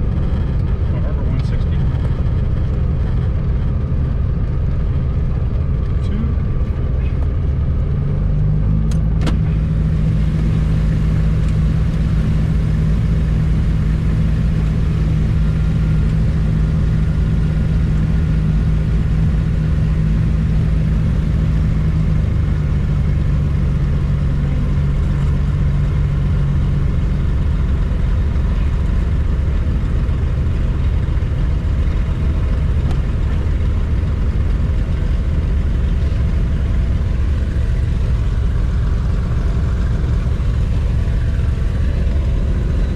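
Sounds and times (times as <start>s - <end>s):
aircraft engines droning: 0.0s - 42.9s.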